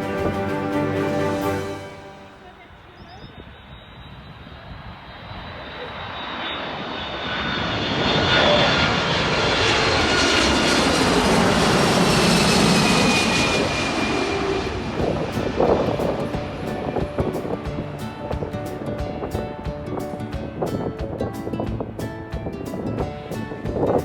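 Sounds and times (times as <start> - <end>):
jet engine roar: 0.0 - 20.8
high jet whine: 0.0 - 24.0.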